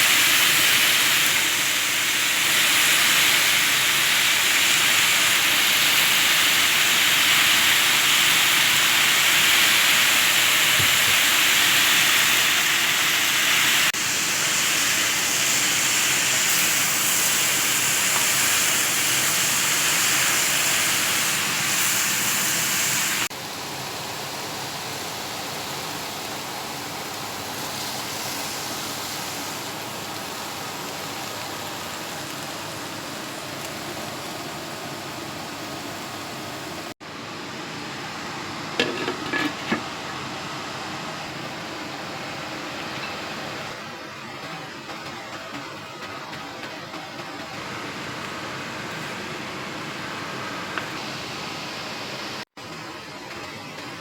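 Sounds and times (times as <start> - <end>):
food sizzling in frying pan: 0.0 - 43.9, 47.1 - 52.4.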